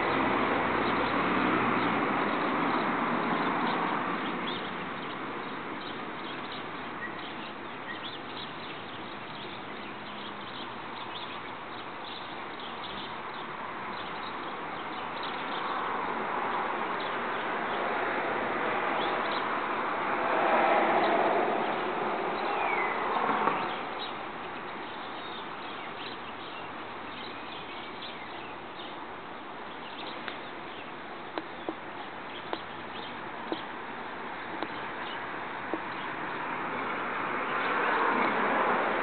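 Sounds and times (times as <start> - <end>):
small birds chirping: 0.0 - 18.2, 18.8 - 20.0, 21.0 - 38.4
outdoor background hiss: 0.0 - 39.0.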